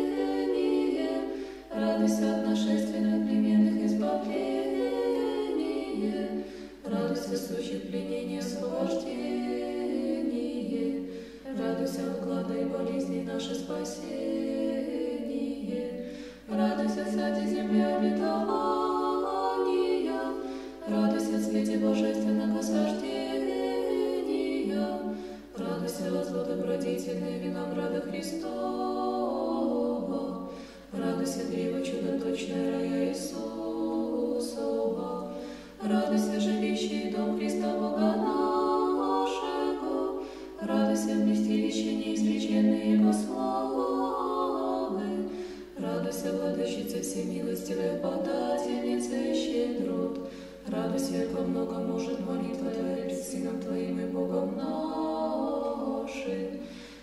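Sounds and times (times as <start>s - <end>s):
choir singing a slow chant: 0.0s - 57.0s.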